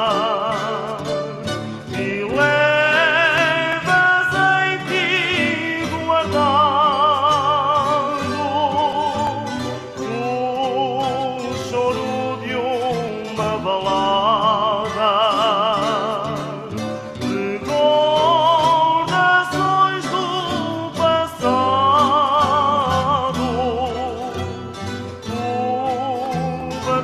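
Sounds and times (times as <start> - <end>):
person singing ballad with vibrato: 0.0 - 27.0
plucked guitar: 0.0 - 27.0.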